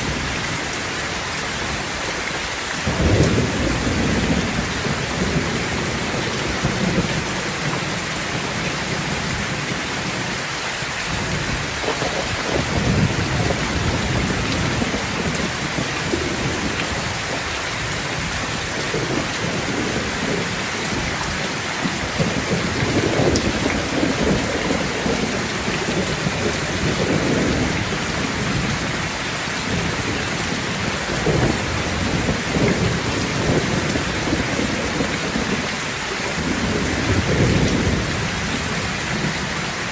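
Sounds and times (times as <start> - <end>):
heavy rain hissing: 0.0 - 39.9
low rolling thunder: 2.8 - 39.6.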